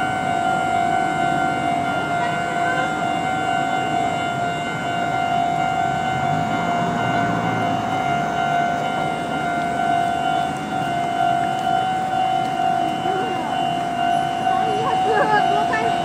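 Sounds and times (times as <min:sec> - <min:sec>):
steady high-pitched tone: 0:00.0 - 0:16.0
street traffic and people: 0:00.0 - 0:16.0.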